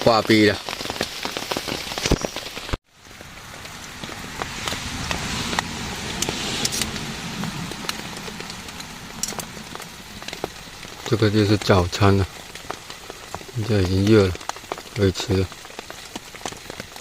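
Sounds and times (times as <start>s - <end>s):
heavy rain on a tent: 0.0s - 17.0s.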